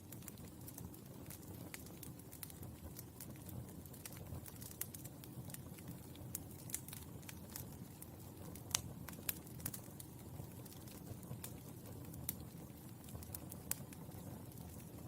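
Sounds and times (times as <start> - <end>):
burning charcoal crackling: 0.0 - 15.0.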